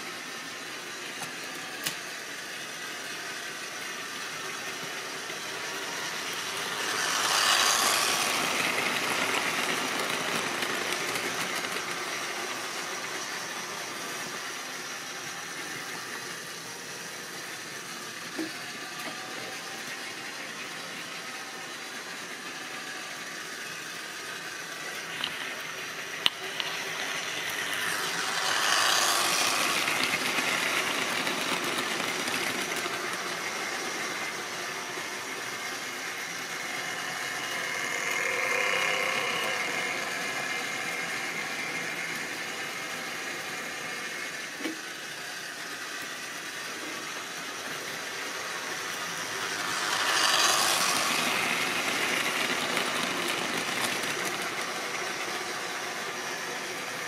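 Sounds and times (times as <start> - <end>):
model train motor whirring rattle: 0.0 - 57.0.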